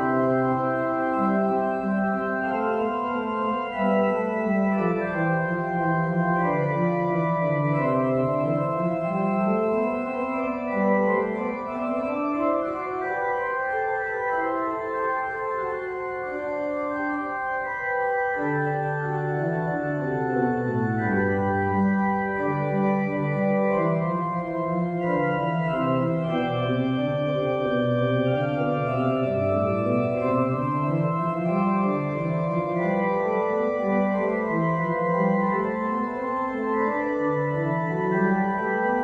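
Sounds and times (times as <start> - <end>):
church organ chords: 0.0 - 39.0.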